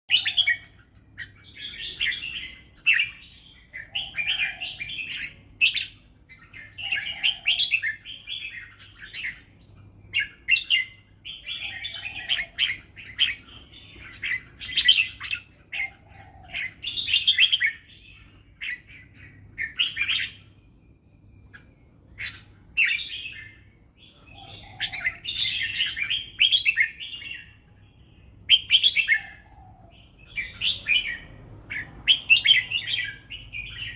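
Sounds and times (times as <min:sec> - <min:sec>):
bird singing: 0:00.1 - 0:33.9
faint low hum: 0:00.1 - 0:33.9.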